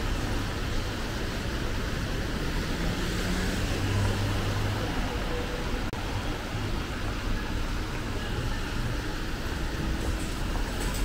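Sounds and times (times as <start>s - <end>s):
tyres hissing on wet road: 0.0s - 11.0s
vehicle engine hum: 0.0s - 11.0s.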